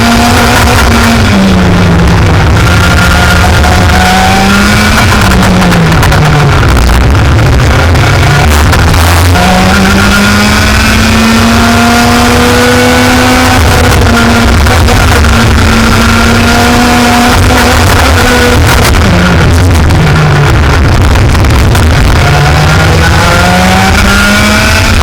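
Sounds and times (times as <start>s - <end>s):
racing kart engine: 0.0s - 25.0s.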